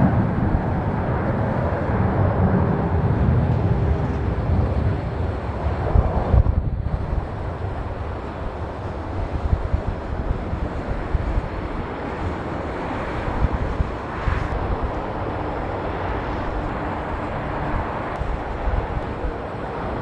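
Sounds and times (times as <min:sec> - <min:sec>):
jet engines at takeoff: 0:00.0 - 0:20.0
wind buffeting microphone: 0:00.0 - 0:20.0.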